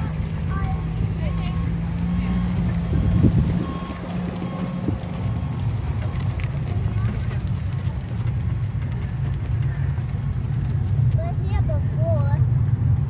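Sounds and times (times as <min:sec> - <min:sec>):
road train engine rumble: 0:00.0 - 0:13.0.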